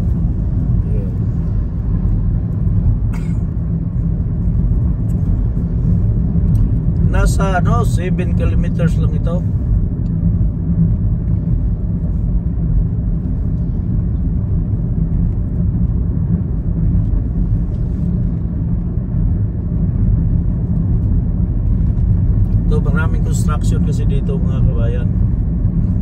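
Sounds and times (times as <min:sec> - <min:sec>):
car driving heard from inside: 0:00.0 - 0:26.0.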